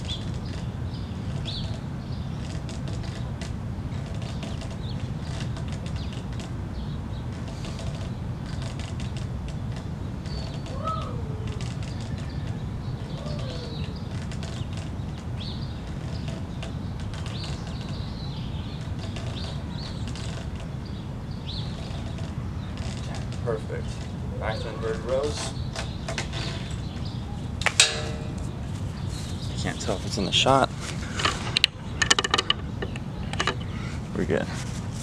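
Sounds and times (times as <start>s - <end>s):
birds chirping: 0.0s - 34.5s.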